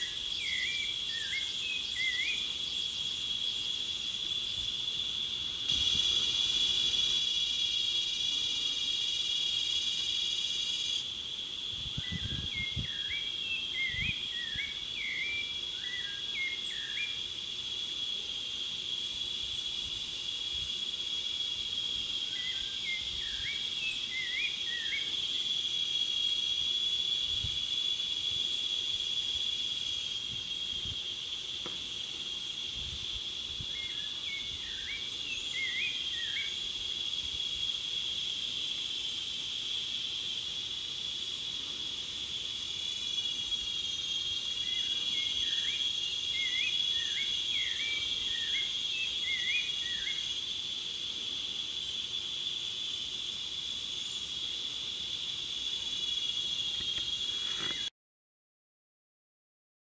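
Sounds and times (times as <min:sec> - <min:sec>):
high-pitched insect drone: 0:00.0 - 0:57.9.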